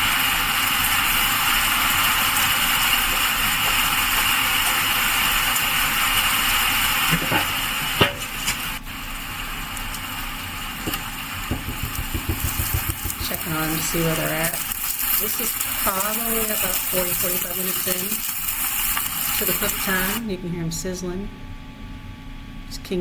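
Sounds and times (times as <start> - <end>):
heavy rain hiss: 0.0 - 20.2.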